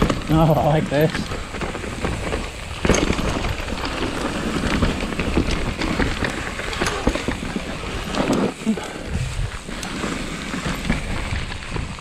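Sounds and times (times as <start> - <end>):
bike clicks and rattles: 0.0 - 12.0
bike tyres skittering on dirt: 0.0 - 12.0
wind rumble on microphone: 1.2 - 12.0.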